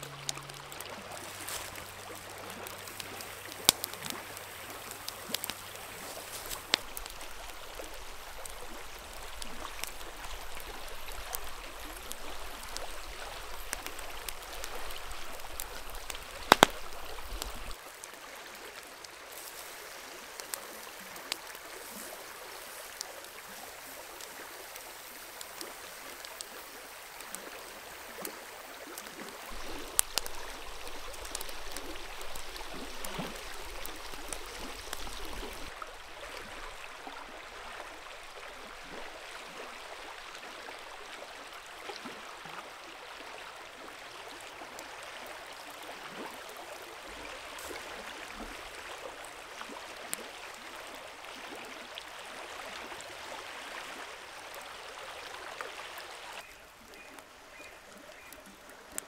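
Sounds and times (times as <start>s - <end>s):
campfire crackling and popping: 0.0s - 57.3s
flowing stream: 0.0s - 59.0s.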